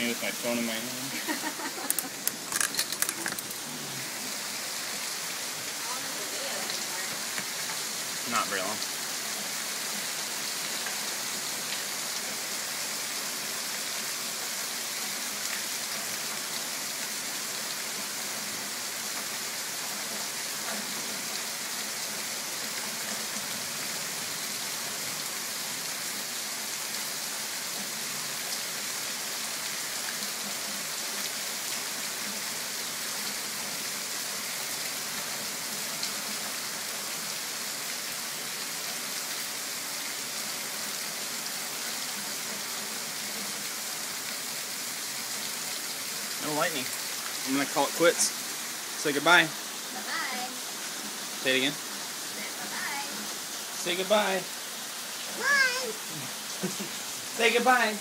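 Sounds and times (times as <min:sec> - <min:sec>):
rain falling on foliage: 0:00.0 - 0:58.0.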